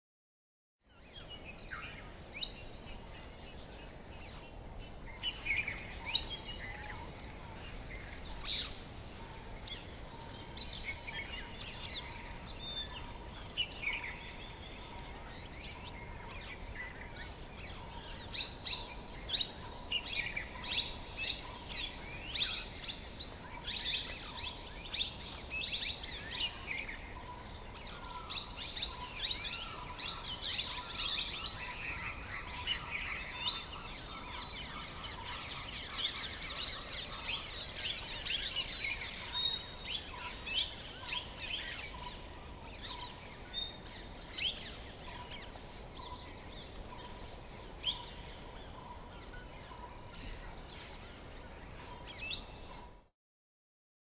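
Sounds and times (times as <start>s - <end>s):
background hiss: 0.9s - 53.0s
birds chirping and calling: 0.9s - 53.0s.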